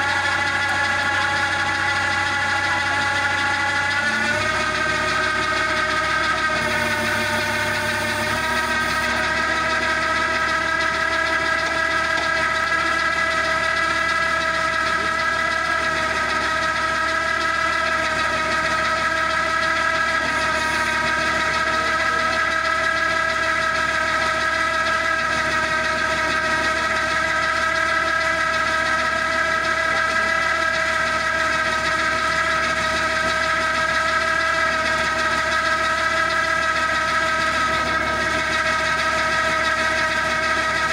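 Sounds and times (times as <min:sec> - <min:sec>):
hydraulic drive high whine: 0:00.0 - 0:40.9
tractor engine running: 0:00.0 - 0:40.9.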